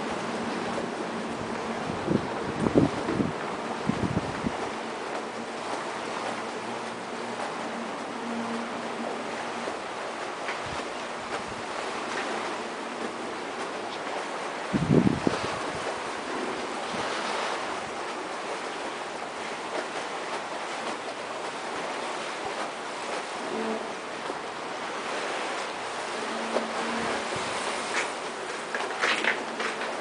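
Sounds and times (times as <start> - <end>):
sea washing along ship hull: 0.0 - 30.0.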